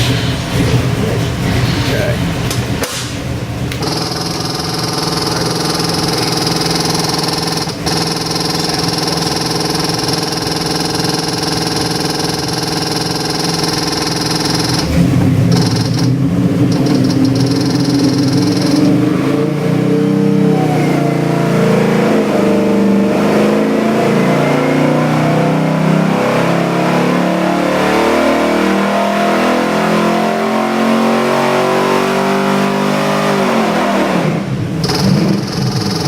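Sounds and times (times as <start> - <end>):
engine revving on a dyno: 0.0 - 36.0.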